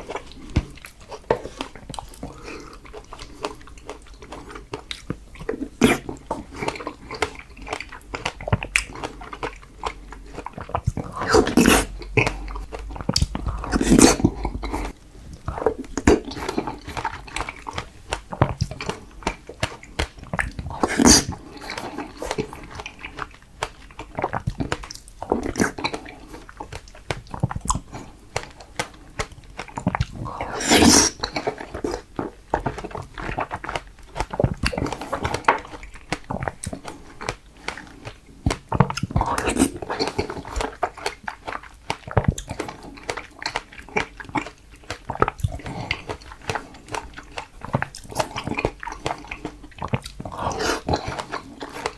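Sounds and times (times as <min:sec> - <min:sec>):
biting strawberries: 0:00.0 - 0:51.9
mouth clicks and smacks: 0:00.0 - 0:51.9.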